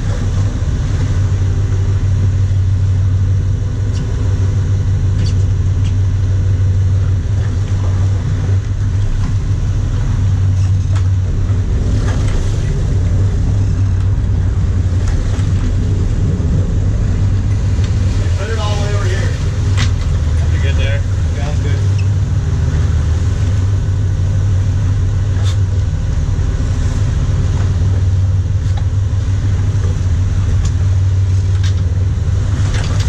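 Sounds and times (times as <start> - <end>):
boat engines humming: 0.0 - 33.0.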